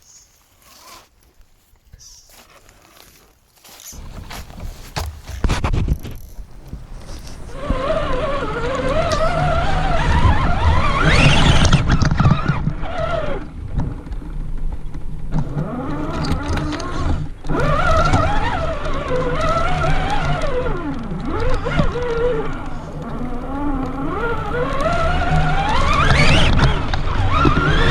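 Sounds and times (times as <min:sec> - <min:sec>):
electric motor whining: 0:03.9 - 0:14.2, 0:15.0 - 0:27.9
truck rumbling over rough ground: 0:03.9 - 0:27.9.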